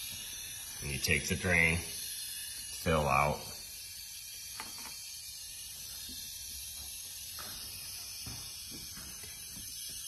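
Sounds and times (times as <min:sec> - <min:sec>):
compressed air hissing: 0:00.0 - 0:10.0.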